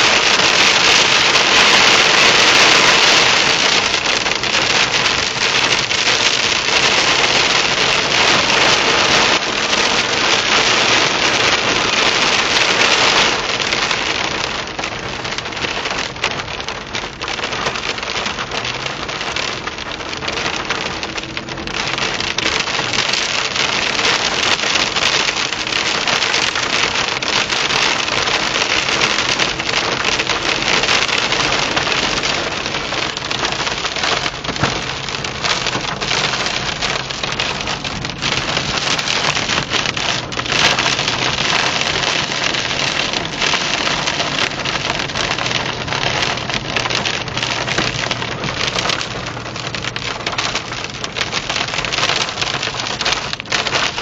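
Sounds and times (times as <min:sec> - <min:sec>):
hail and rain on car roof: 0:00.0 - 0:54.0.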